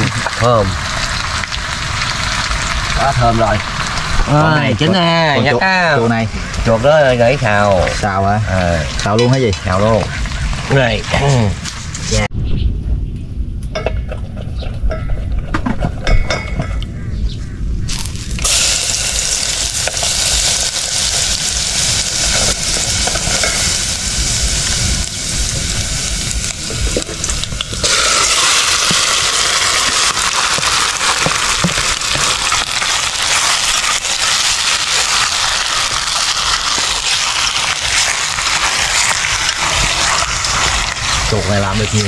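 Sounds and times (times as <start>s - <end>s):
meat sizzling in a pan: 0.0s - 12.3s, 17.9s - 42.0s.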